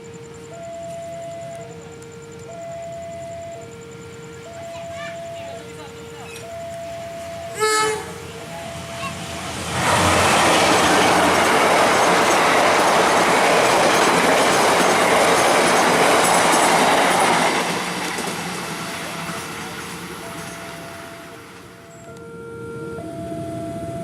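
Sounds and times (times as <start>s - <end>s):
passenger train passing at speed: 0.0s - 24.0s.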